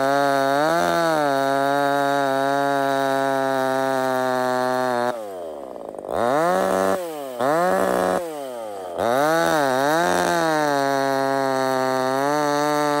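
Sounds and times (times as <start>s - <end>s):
chainsaw cutting log: 0.0s - 13.0s
chainsaw revving: 0.0s - 13.0s.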